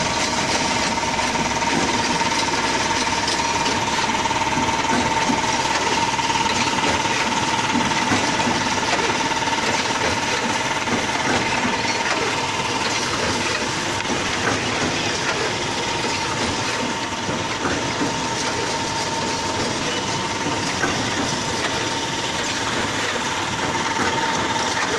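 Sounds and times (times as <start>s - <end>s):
mechanical clatter: 0.0s - 24.9s
steady machine whine: 0.0s - 24.9s.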